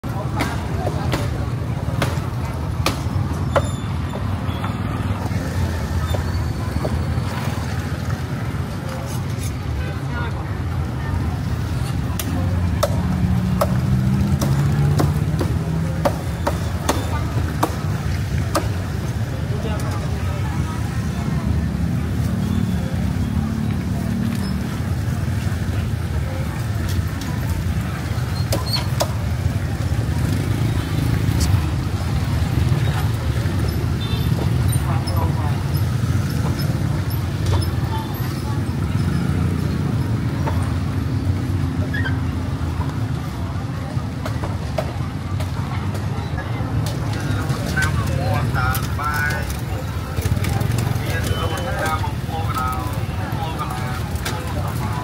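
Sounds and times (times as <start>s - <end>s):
hubbub of voices: 0.0s - 55.0s
street market din: 0.0s - 55.0s.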